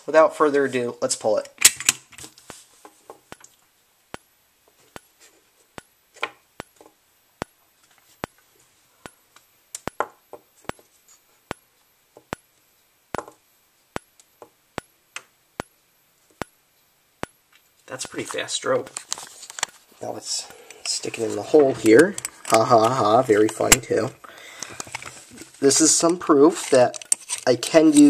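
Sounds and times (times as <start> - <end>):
faint high recharge whine: 0.0 - 28.0.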